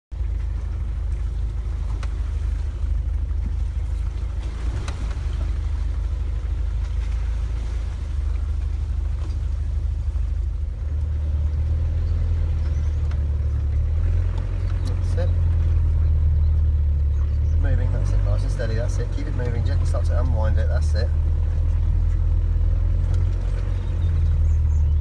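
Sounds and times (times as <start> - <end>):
engine low rumble: 0.0 - 25.0.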